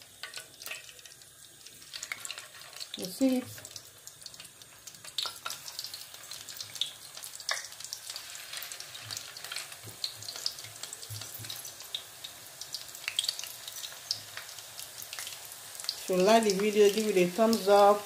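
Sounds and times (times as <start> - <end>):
dough deep-frying in oil: 0.0 - 18.0.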